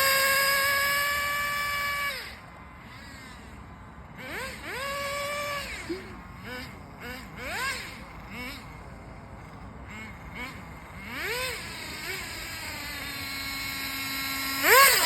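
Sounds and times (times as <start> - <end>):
engine throttle blips: 0.0 - 15.0
small nitro engine revving: 0.0 - 15.0.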